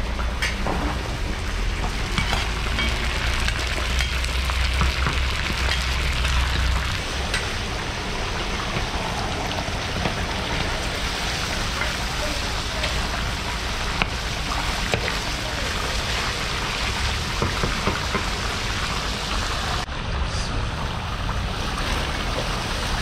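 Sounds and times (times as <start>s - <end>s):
meat sizzling in hot oil: 1.0s - 19.9s.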